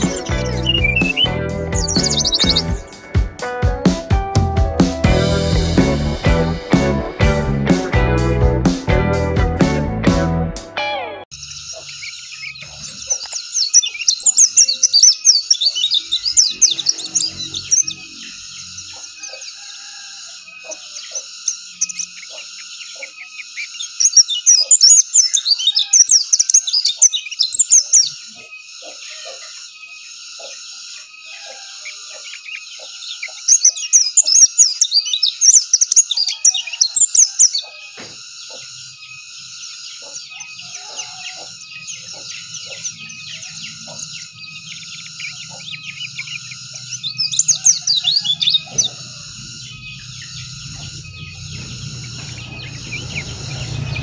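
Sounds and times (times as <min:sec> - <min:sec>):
soft bird chirps: 0:00.0 - 0:03.0, 0:11.4 - 0:54.0
bird twittering: 0:00.0 - 0:03.2, 0:11.3 - 0:54.0.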